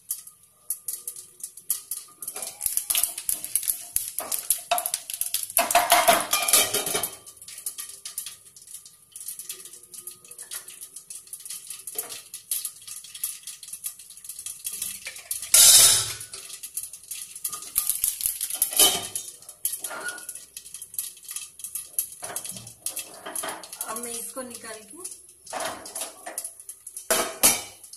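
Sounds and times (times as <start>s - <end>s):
spices popping in hot oil: 0.0s - 27.9s
spoon scraping a pan: 0.9s - 9.7s, 10.4s - 27.9s.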